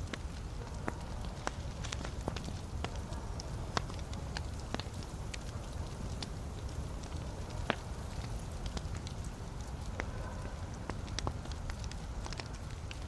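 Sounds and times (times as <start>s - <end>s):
burning logs crackling and popping: 0.0s - 13.0s
low rumble of flames: 0.0s - 13.0s.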